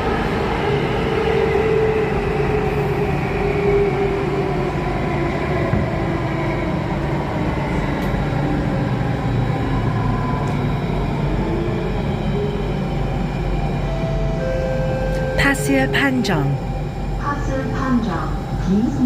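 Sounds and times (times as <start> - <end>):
metro train rumble and rail noise: 0.0 - 19.0.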